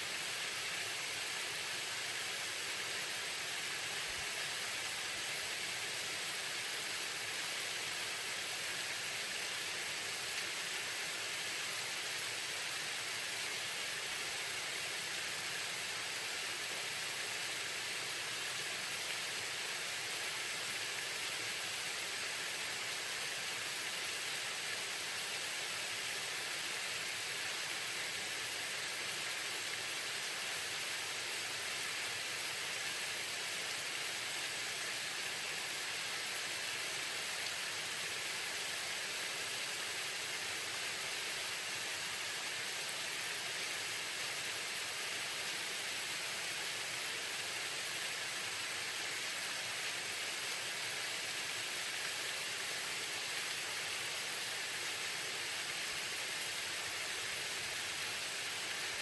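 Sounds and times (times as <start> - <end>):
waterfall splashing: 0.0 - 59.0.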